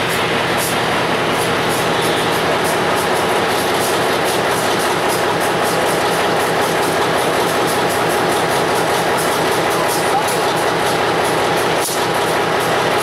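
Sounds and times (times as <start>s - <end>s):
diesel locomotive engine running: 0.0s - 13.0s
rail cars rolling on track: 0.0s - 13.0s.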